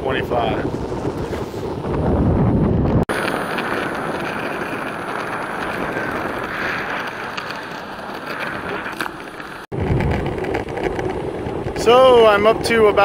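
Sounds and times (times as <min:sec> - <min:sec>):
skateboard rolling on asphalt: 0:00.0 - 0:13.0.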